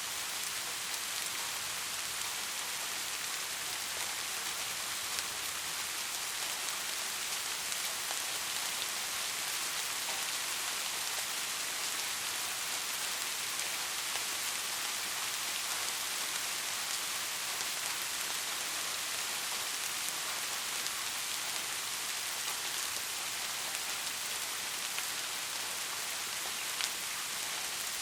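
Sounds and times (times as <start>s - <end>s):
steady rainfall hiss: 0.0s - 28.0s.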